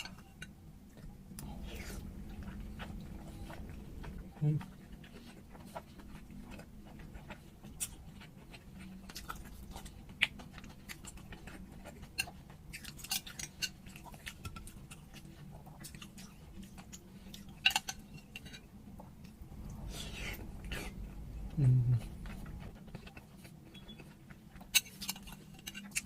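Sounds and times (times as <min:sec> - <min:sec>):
person chewing with mouth clicks: 0:00.1 - 0:26.0.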